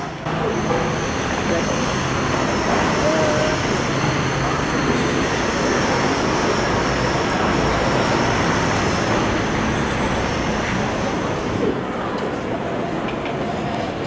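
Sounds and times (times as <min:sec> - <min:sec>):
busy airport terminal noise: 0:00.0 - 0:14.0.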